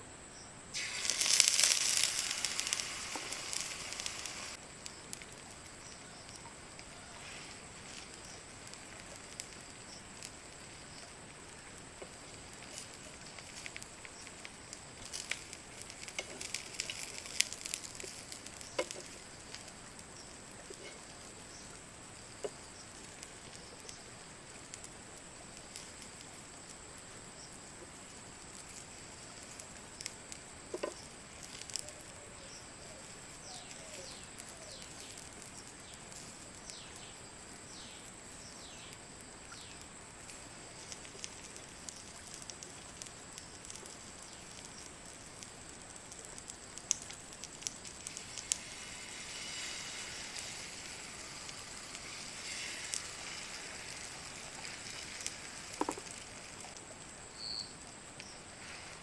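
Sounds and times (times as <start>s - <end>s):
soft hiss: 0.0s - 59.0s
small clicks and crackles: 0.7s - 59.0s.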